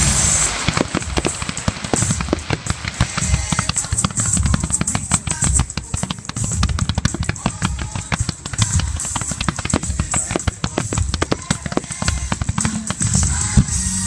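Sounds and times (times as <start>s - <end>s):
heavy firework booms: 0.0s - 13.7s
fireworks bangs and crackling: 0.0s - 14.0s.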